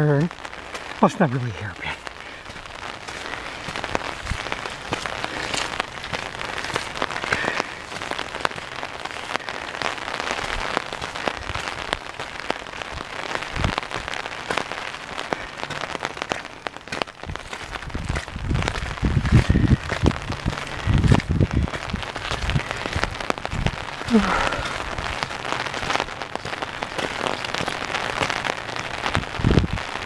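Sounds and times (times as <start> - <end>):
rain falling: 0.0 - 30.0
raindrops ticking: 0.0 - 30.0.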